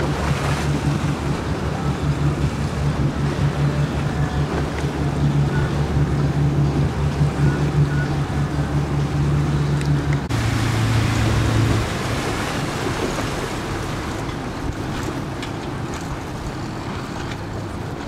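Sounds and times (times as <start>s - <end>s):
boat motor humming: 0.0s - 18.0s
water noise: 0.0s - 18.0s
wind: 0.0s - 18.0s.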